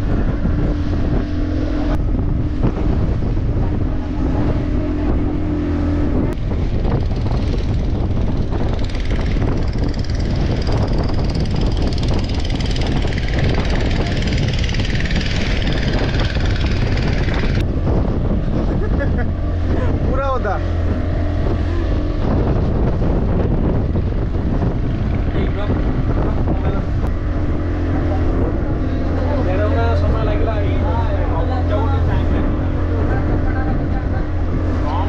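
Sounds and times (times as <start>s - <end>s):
motorboat engine running: 0.0s - 35.0s.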